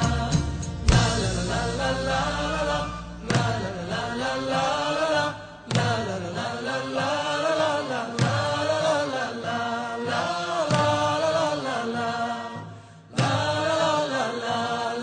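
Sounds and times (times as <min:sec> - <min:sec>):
woman singing through loudspeakers: 0:00.0 - 0:15.0.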